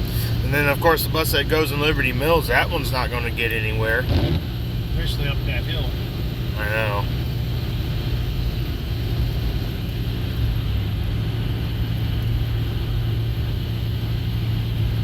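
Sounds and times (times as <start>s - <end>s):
car engine hum: 0.0s - 15.0s
road and tyre noise: 0.0s - 15.0s.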